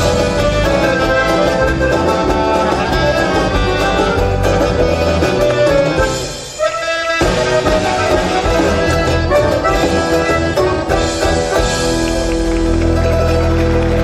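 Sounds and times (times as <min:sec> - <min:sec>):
band playing folk music: 0:00.0 - 0:14.0.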